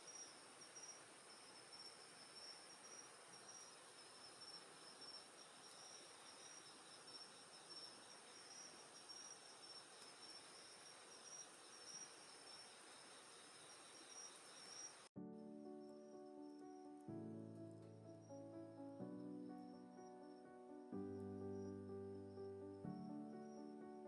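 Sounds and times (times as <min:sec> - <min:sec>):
crackling wood campfire: 0:00.0 - 0:24.0
night insects trilling: 0:00.0 - 0:24.0.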